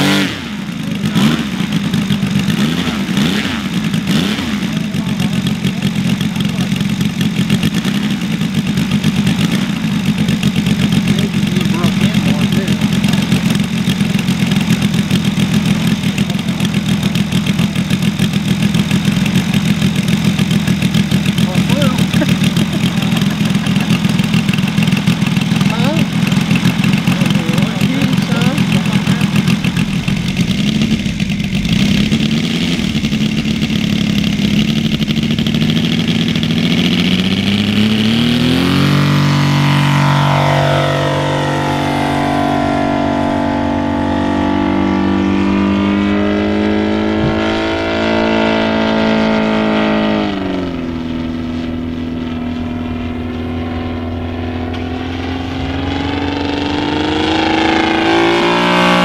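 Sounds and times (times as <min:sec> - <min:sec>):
model plane engine droning: 0:00.0 - 0:59.0.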